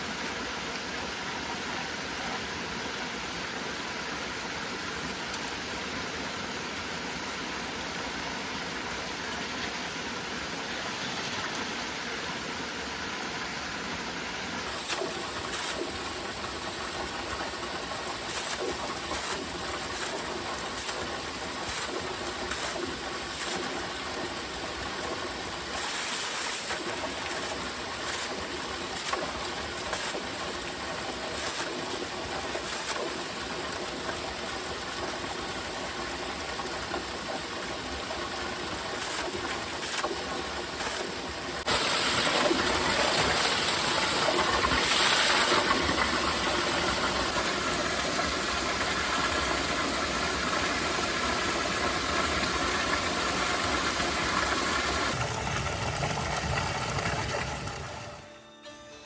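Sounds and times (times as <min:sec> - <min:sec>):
steady rain hiss: 0:00.0 - 0:58.2.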